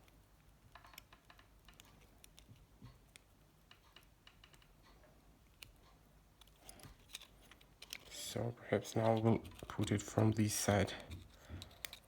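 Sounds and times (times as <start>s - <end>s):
plastic phone parts clicking: 0.0s - 4.8s, 6.4s - 8.2s, 8.8s - 12.0s.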